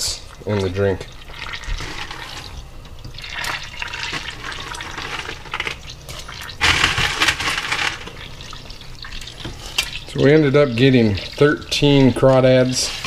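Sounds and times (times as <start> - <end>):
boiling water bubbling: 0.0 - 13.0.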